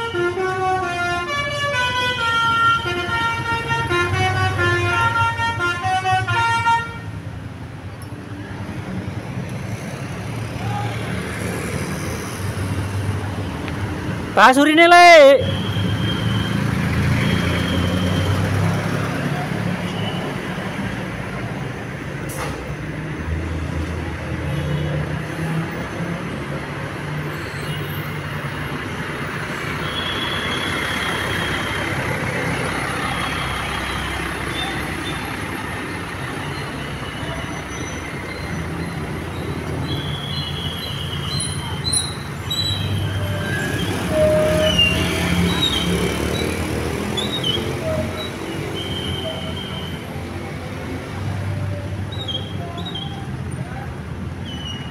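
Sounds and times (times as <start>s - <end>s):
heavy bus engines: 0.0s - 54.9s
road traffic: 0.0s - 54.9s.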